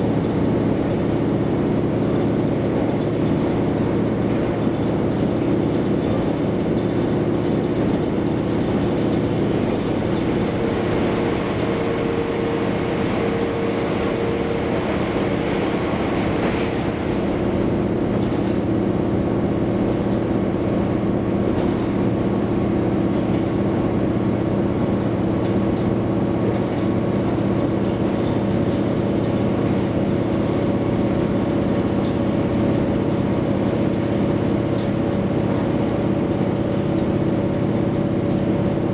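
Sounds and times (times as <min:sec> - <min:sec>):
railcar engine drone: 0:00.0 - 0:38.9
wheels rumbling on rail: 0:00.0 - 0:38.9.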